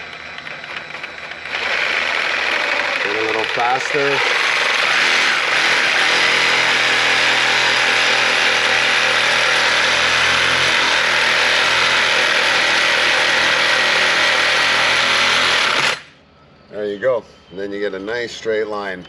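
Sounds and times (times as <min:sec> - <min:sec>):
reciprocating saw cutting stucco: 0:00.0 - 0:16.1.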